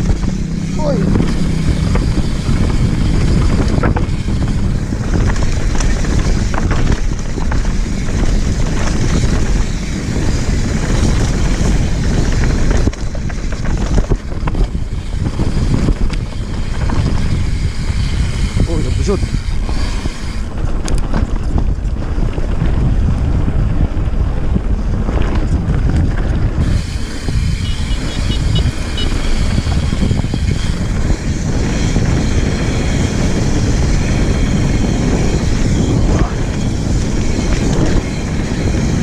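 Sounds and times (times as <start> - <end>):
bike tyres rumbling on dirt: 0.0 - 39.0
wind buffeting microphone: 0.0 - 39.0.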